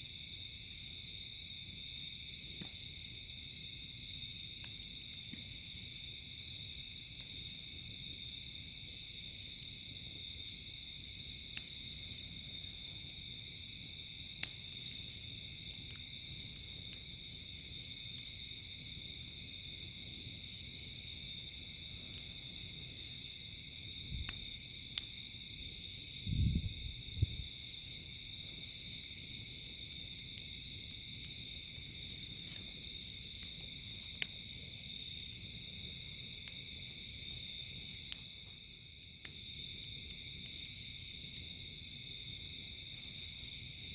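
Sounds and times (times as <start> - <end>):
campfire crackling: 0.0 - 43.9
night insects chorus: 0.0 - 43.9.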